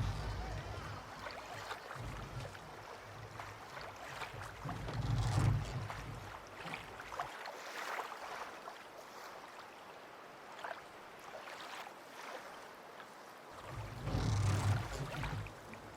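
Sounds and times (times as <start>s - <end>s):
small splashes: 0.0s - 15.9s
water lapping and sloshing: 0.0s - 15.9s.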